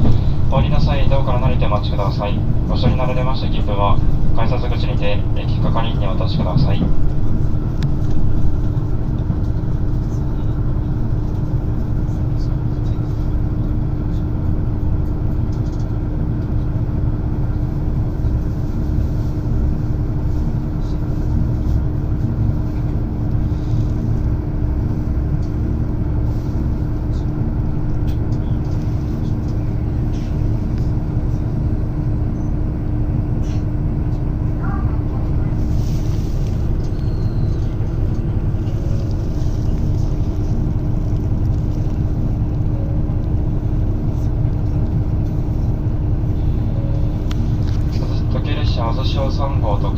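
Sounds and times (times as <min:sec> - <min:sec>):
diesel railcar engine rumble: 0:00.0 - 0:49.9.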